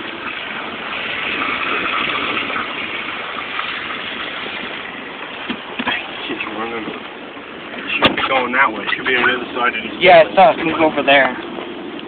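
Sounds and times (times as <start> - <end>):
heavy rain on car: 0.0 - 11.2.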